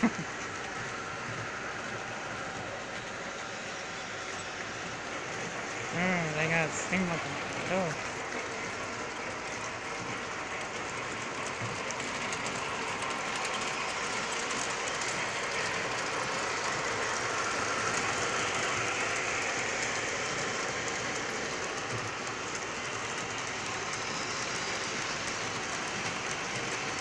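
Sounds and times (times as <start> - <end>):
model trains rattling on track: 0.0 - 27.0.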